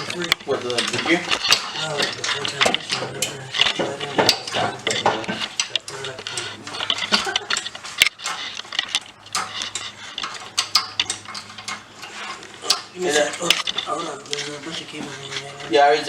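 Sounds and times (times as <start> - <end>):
metallic clinks of tools: 0.0 - 16.0.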